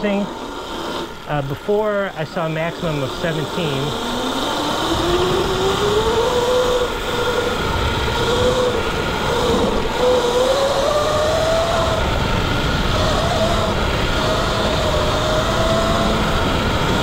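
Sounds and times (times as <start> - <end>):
electric dirt bike motor whining: 0.0 - 17.0
wind rushing: 0.0 - 17.0.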